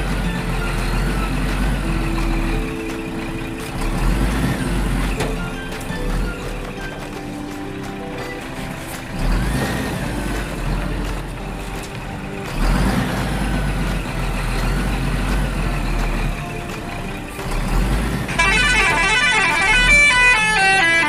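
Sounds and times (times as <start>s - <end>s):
heavy truck engine rumbling: 0.0s - 21.0s.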